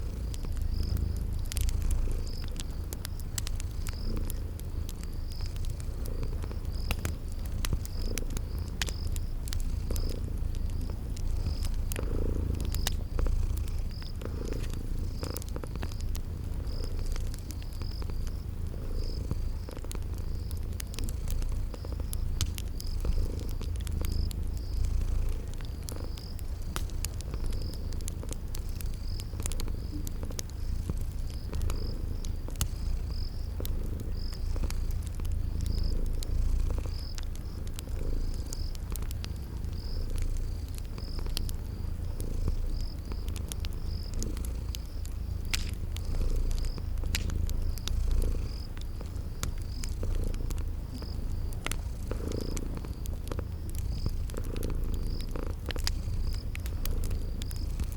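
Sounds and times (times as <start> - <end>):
cat purring: 0.0 - 57.9
crickets chirping: 0.0 - 57.9
wood fire crackling: 0.0 - 57.9.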